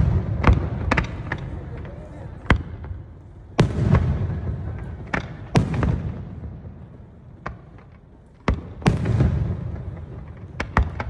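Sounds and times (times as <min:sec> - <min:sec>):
fireworks bangs: 0:00.0 - 0:11.0
rolling rumble: 0:00.0 - 0:11.0
small firework cracks: 0:00.0 - 0:11.0.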